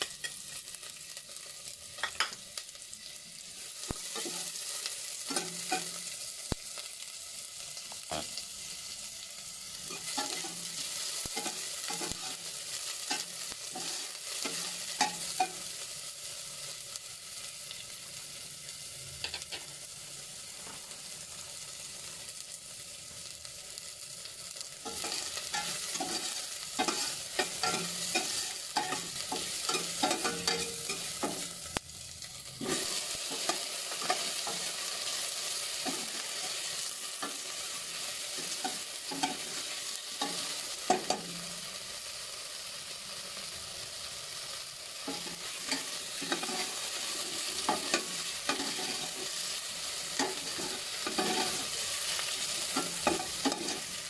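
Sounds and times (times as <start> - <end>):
onion sizzling in hot oil: 0.0 - 54.0.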